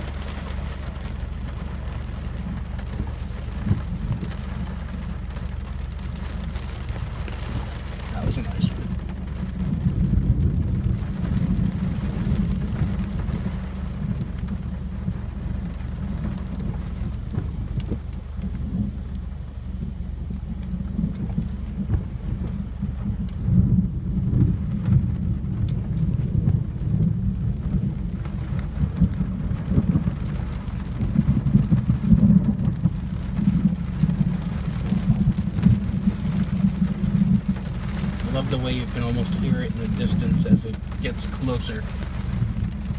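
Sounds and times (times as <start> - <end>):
steady rain: 0.0 - 42.9
thunder rumbling: 0.0 - 42.9.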